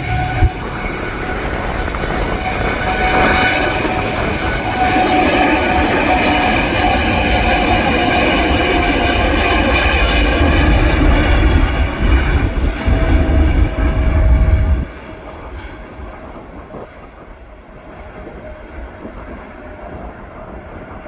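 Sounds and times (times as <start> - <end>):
deep jet engine rumble: 0.0 - 21.0
jet engine whine: 0.0 - 21.0.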